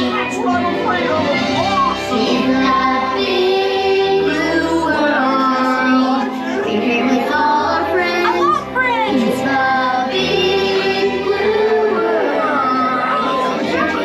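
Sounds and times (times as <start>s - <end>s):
backing music: 0.0s - 14.0s
child and woman singing: 2.1s - 14.0s.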